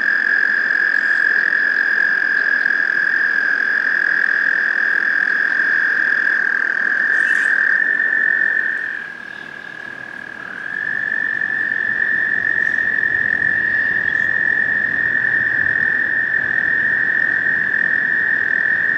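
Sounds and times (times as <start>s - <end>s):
toads trilling: 0.0s - 18.9s.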